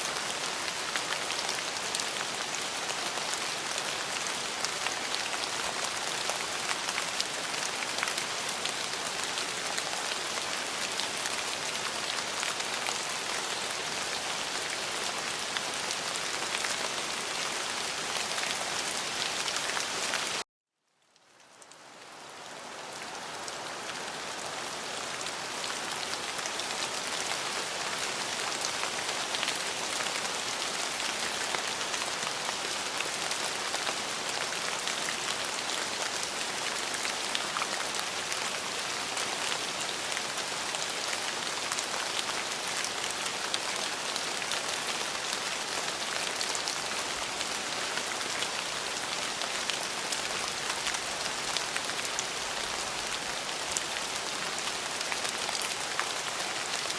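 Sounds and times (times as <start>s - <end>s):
rain pattering: 0.1s - 20.4s, 21.0s - 56.9s.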